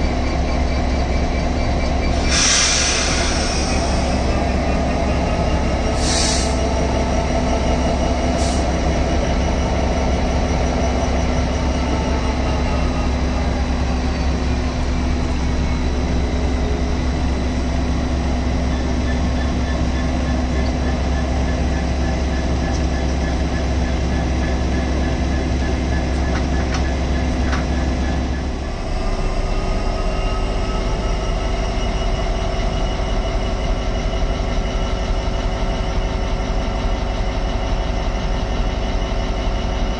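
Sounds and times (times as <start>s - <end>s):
locomotive engines idling: 0.0s - 39.9s.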